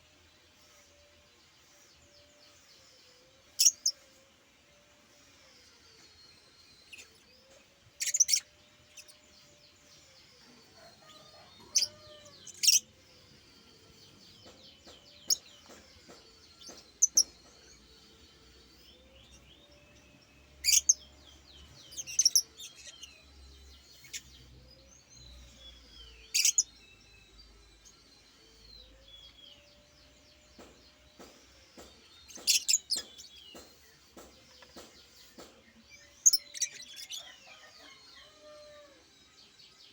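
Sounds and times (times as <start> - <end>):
bird chirping: 1.1 - 4.2, 5.3 - 39.9
high bird warbling chatter: 1.7 - 4.2, 5.1 - 38.9.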